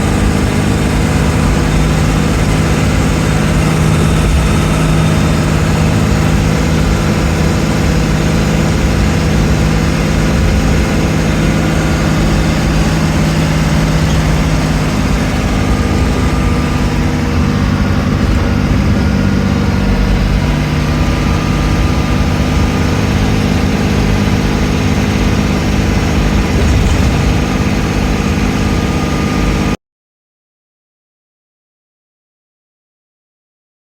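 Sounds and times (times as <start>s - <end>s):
vehicle engine droning: 0.0s - 29.8s.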